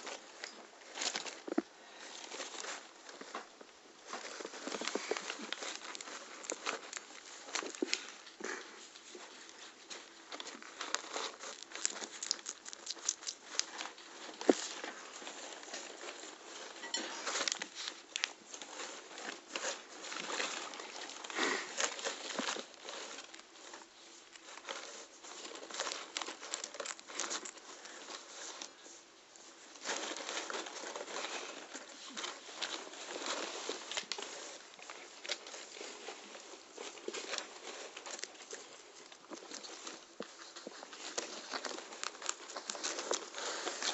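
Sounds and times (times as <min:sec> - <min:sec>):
paper rustling: 0:00.0 - 0:43.9
guinea pigs crunching pepper: 0:04.0 - 0:28.7, 0:29.7 - 0:43.9.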